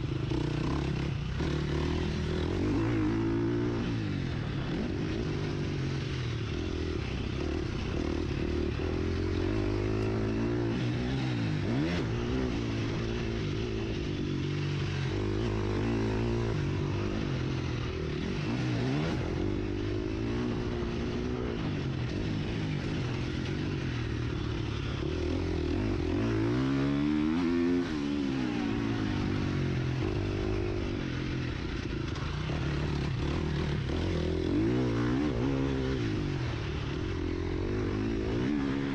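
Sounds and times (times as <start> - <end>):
wind and track noise: 0.0 - 38.9
motocross engine revving: 6.7 - 38.9.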